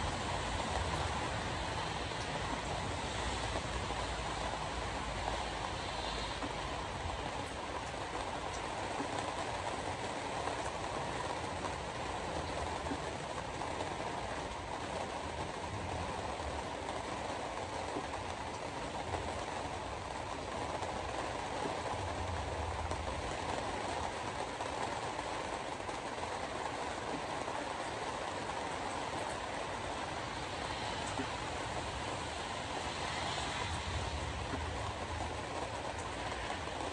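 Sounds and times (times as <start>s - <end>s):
tyre noise on wet road: 0.0s - 36.9s.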